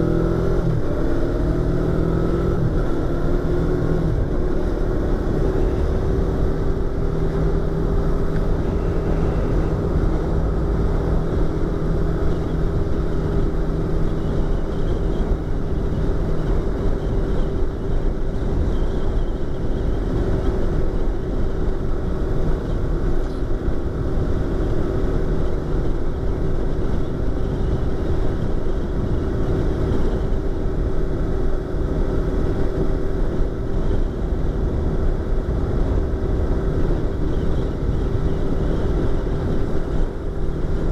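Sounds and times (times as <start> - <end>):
low wind rumble: 0.0 - 40.9
motorcycle engine running: 0.0 - 40.9.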